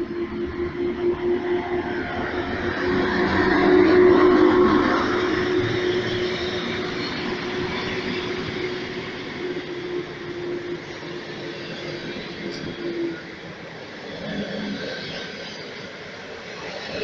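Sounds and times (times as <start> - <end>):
locomotive hum: 0.0 - 17.0
train rumbling past on rails: 0.0 - 17.0.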